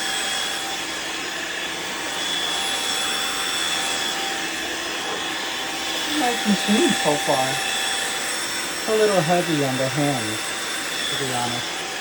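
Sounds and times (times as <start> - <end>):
floor washer running: 0.0 - 12.0.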